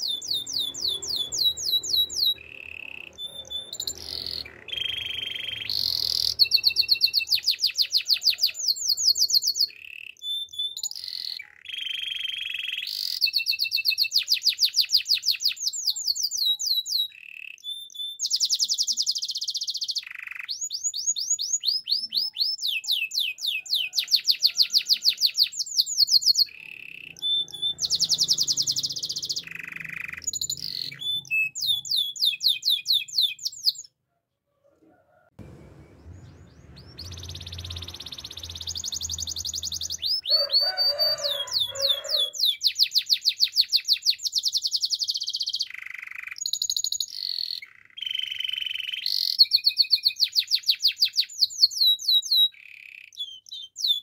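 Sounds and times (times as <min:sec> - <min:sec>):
canary singing fast trills: 0:00.0 - 0:34.0, 0:36.0 - 0:54.0.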